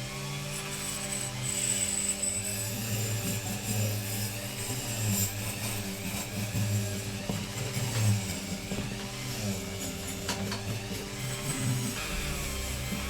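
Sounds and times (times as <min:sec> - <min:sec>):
rotary wire brush on metal: 0:00.0 - 0:13.0.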